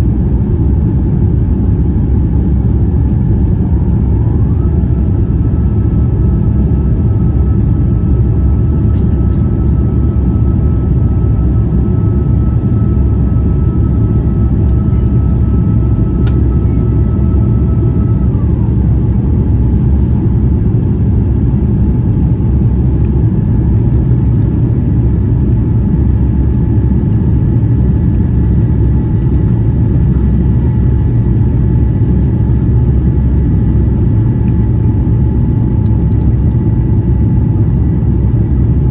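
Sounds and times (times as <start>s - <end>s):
aircraft cabin engine roar: 0.0s - 38.9s
faint engine tones: 3.0s - 38.9s.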